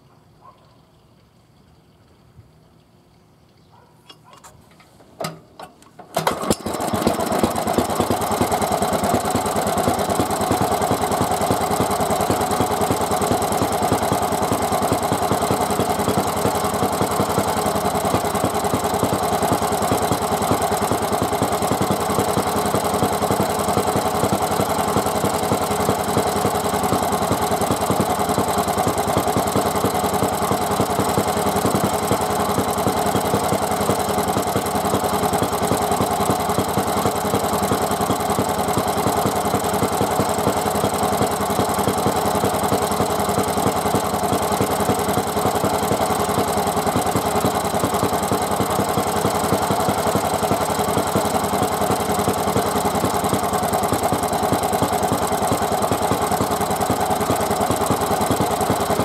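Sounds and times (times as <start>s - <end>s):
engine starting and running: 4.1s - 59.0s.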